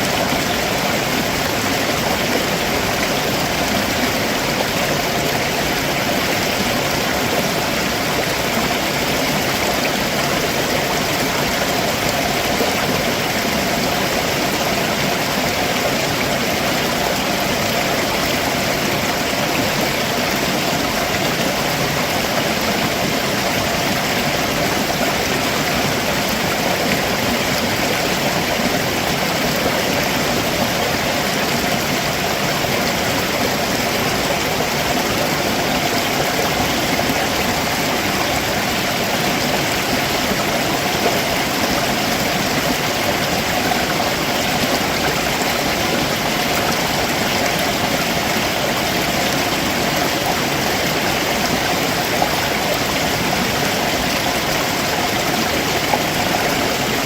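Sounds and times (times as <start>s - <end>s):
stream water running over rocks: 0.0s - 57.0s.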